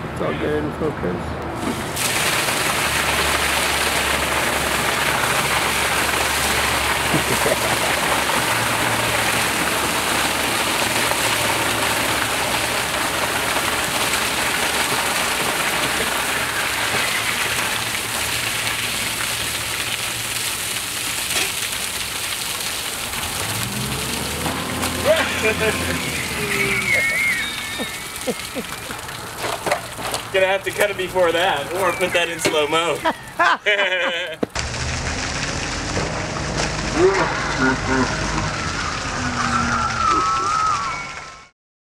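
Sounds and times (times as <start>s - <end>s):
liquid gushing onto pavement: 1.6s - 41.4s.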